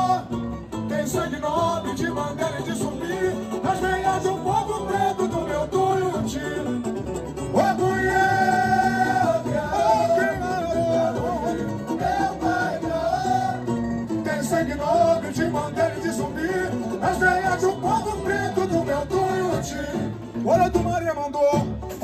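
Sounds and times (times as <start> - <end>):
percussion: 0.0 - 22.0
plucked strings: 0.0 - 22.0
voices singing wordless lines: 0.0 - 22.0.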